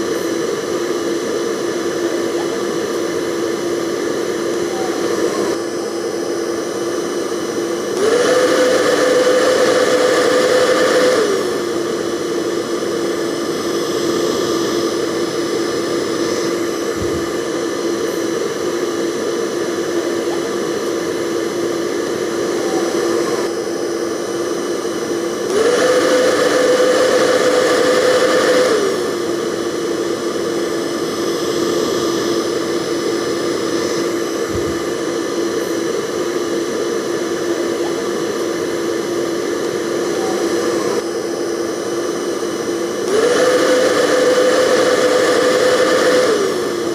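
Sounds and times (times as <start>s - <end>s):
hair dryer running: 0.0s - 46.9s.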